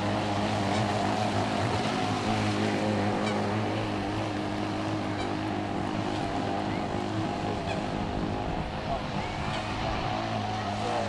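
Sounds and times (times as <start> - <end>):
model speedboat motor drone: 0.0 - 11.0.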